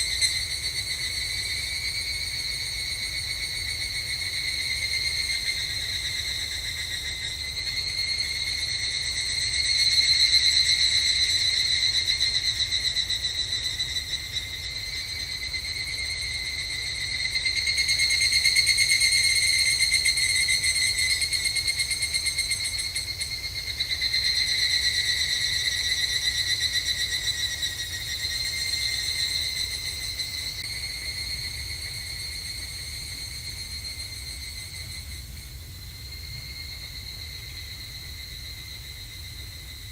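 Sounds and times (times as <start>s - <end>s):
cicadas trilling: 0.0s - 39.9s.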